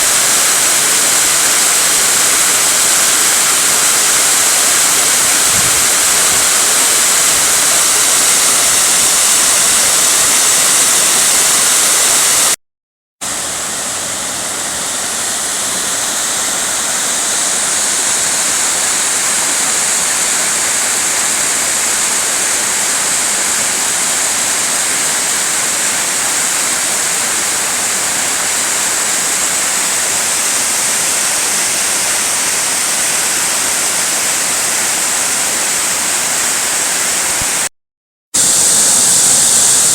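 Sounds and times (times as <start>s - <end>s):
waterfall rushing: 0.0s - 12.6s, 13.2s - 37.7s, 38.4s - 39.9s.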